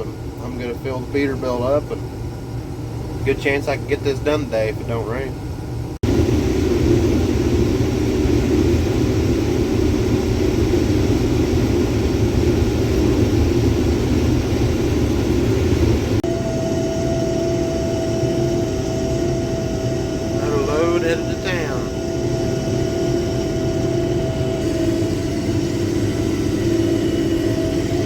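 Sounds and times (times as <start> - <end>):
combine harvester drone: 0.0 - 28.0
steady high whine: 0.0 - 28.0.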